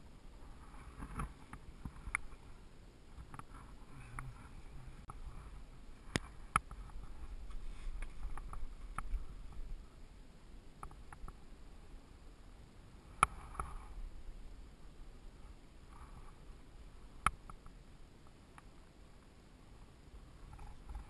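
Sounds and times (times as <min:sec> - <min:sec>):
wind rumble on microphone: 0:00.0 - 0:18.1, 0:19.6 - 0:21.0.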